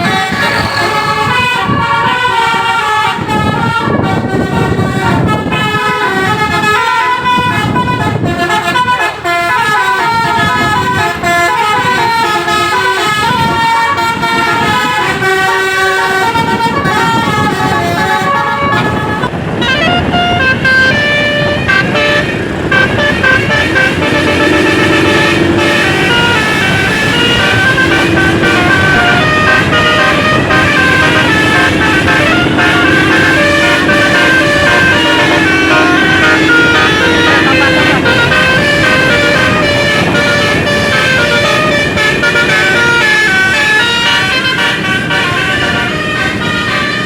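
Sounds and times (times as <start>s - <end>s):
multi-tone bus horn tune: 0.0s - 47.0s.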